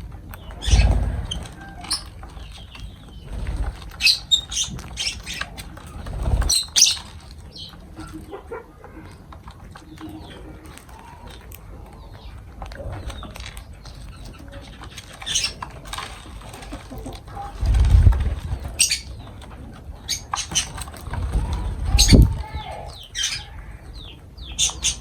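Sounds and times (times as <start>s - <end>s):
lovebirds chirping: 0.0s - 25.0s.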